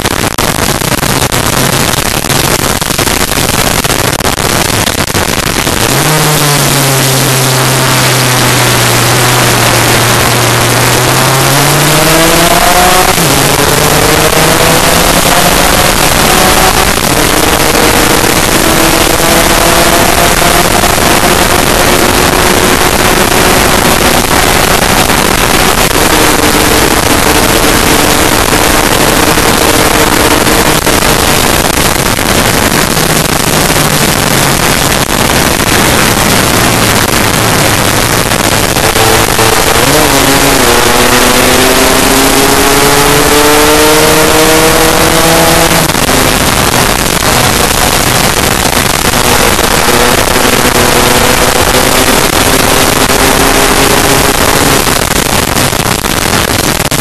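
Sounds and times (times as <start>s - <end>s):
scooter engine at full throttle: 0.0s - 57.0s
wind rush on microphone: 0.0s - 57.0s.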